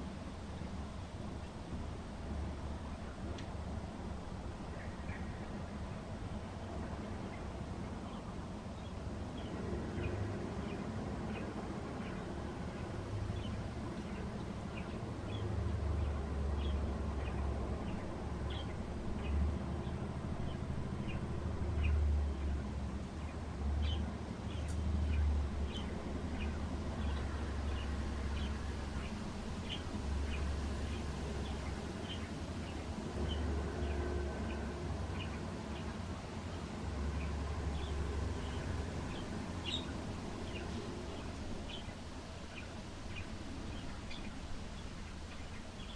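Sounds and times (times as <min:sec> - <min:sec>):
small birds chirping: 0:04.5 - 0:45.9.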